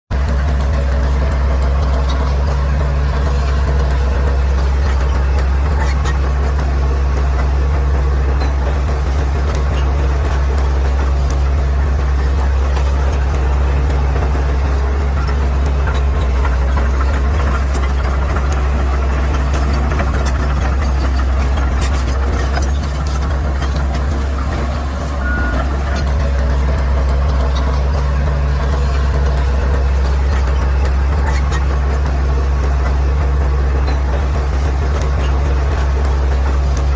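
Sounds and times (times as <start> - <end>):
bulldozer diesel engine droning: 0.1 - 36.9.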